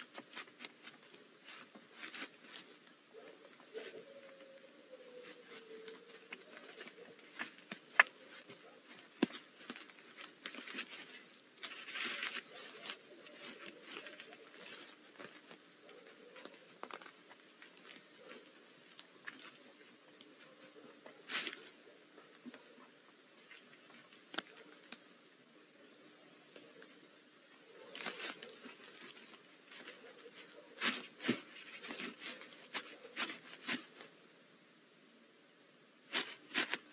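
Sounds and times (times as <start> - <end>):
wood shavings rustling and crackling: 0.0 - 25.0, 26.8 - 34.1, 36.1 - 36.9.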